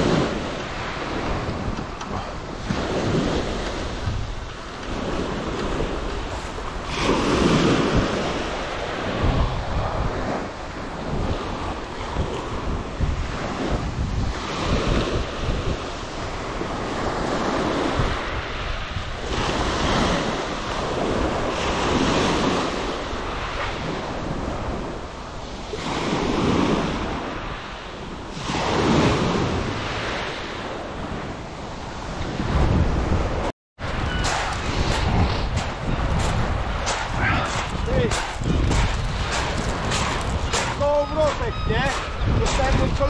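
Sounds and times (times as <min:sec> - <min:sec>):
waves washing up shingle: 0:00.0 - 0:43.0
wind buffeting microphone: 0:00.0 - 0:43.0.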